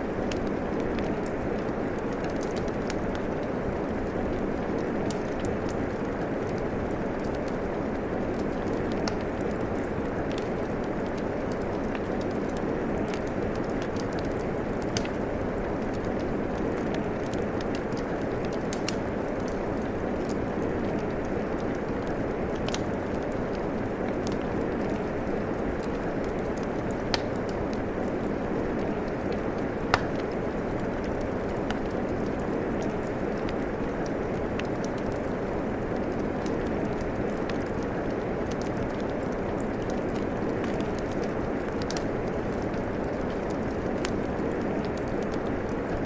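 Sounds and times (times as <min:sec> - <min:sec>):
steady rainfall: 0:00.0 - 0:46.0
wood fire crackling: 0:00.0 - 0:46.0.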